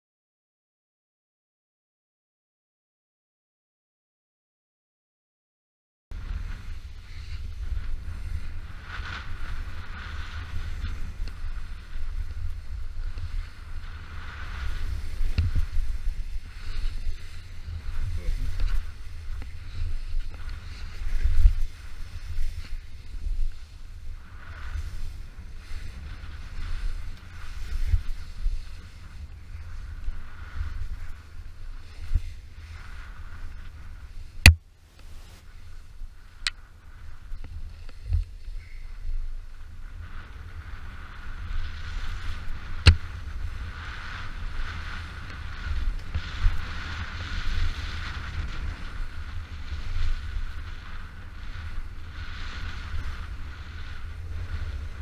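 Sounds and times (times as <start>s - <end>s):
snowboard sliding through snow: 6.1s - 55.0s
wind buffeting microphone: 6.1s - 55.0s.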